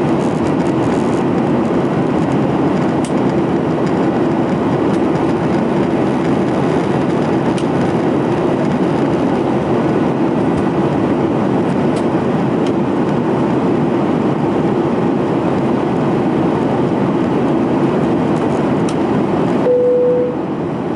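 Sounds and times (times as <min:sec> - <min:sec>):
jet engine roar: 0:00.0 - 0:19.7.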